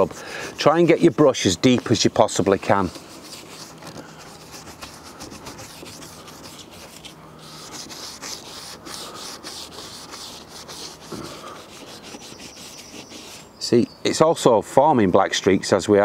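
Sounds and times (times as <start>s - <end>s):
brush scrubbing plastic lens: 0.0s - 13.5s.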